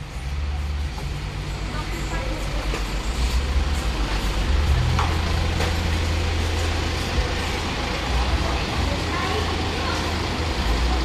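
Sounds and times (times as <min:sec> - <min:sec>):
minibus engine idling: 0:00.0 - 0:11.0.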